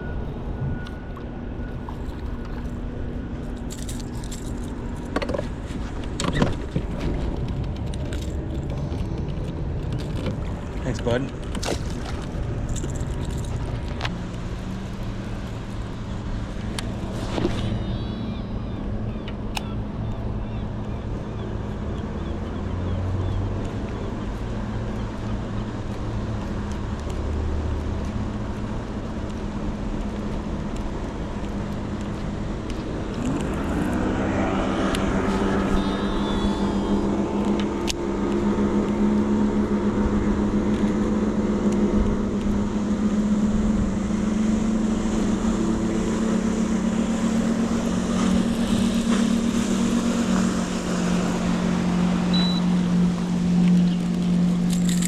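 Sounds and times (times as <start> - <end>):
motorboat engine drone: 0.0 - 55.0.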